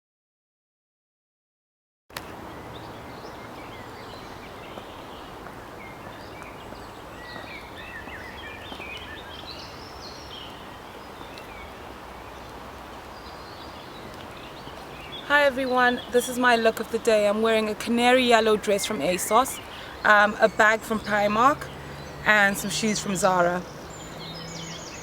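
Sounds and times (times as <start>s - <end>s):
steady background noise: 2.2s - 25.0s
birds chirping: 2.5s - 25.0s.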